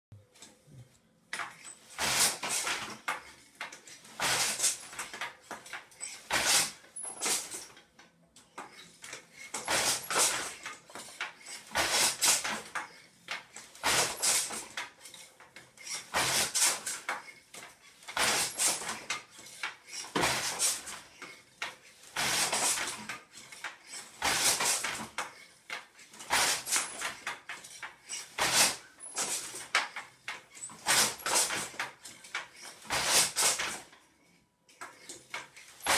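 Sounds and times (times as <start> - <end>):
loom shuttle and beater clatter: 1.3 - 34.1, 34.8 - 35.9.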